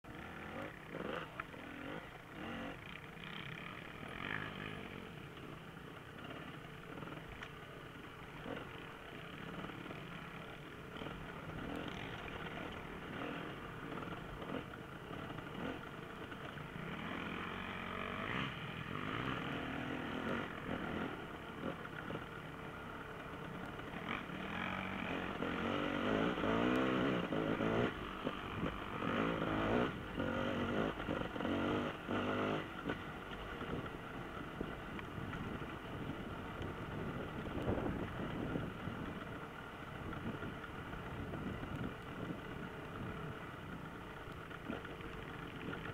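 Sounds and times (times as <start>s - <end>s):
dirt bike engines revving: 0.1s - 45.9s.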